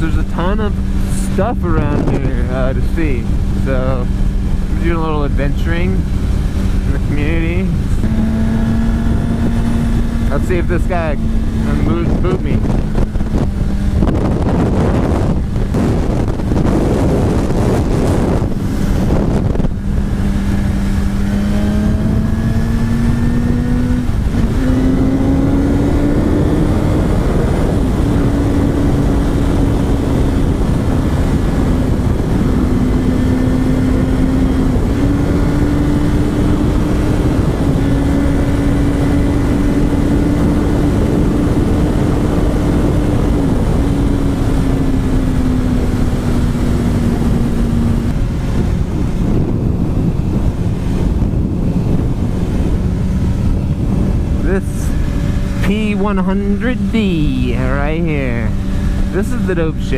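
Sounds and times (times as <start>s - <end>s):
motorcycle engine at high revs: 0.0s - 59.9s
wind noise on microphone: 0.0s - 59.9s.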